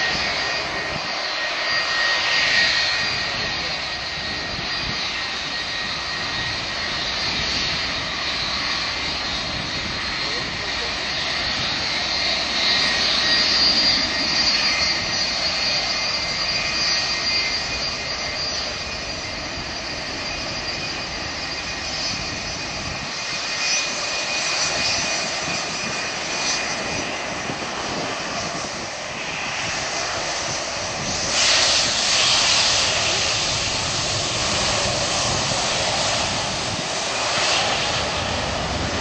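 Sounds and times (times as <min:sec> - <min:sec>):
jet engines taxiing: 0:00.0 - 0:39.0.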